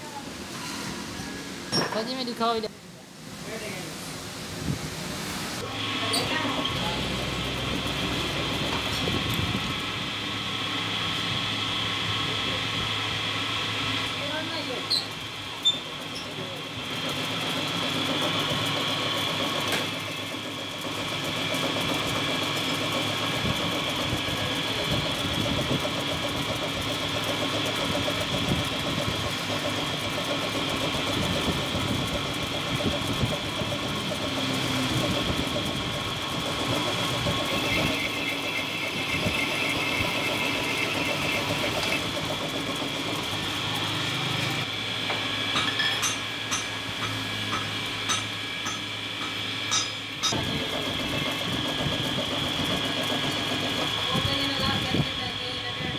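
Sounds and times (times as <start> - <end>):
metal lathe humming: 5.6 - 55.9.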